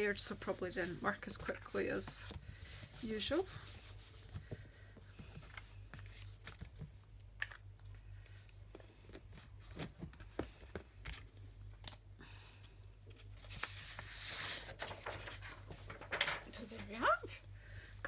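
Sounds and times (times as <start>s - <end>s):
paper and craft supplies rustling: 0.0s - 12.0s, 13.0s - 18.0s
steady low hum: 0.0s - 18.0s.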